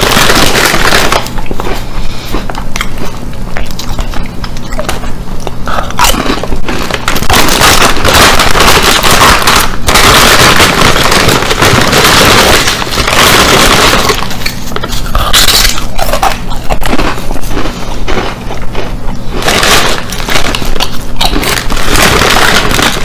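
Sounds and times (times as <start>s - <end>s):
biting into a chip: 0.0s - 23.0s
chip bag crinkling: 0.0s - 23.0s.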